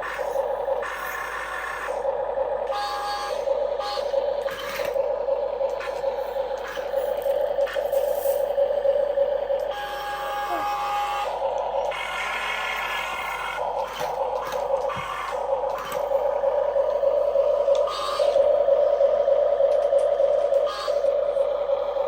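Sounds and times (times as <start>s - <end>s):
small electric motors whining: 0.0s - 22.0s.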